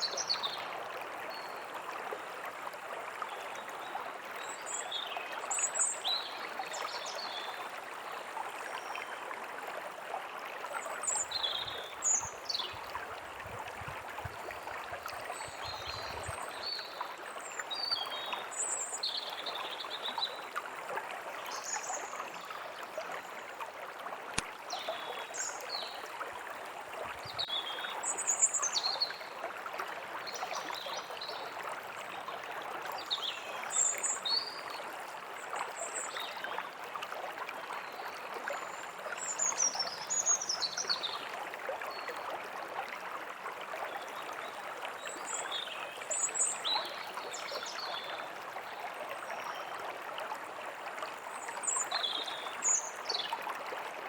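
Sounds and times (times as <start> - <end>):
forest stream running: 0.0 - 54.0.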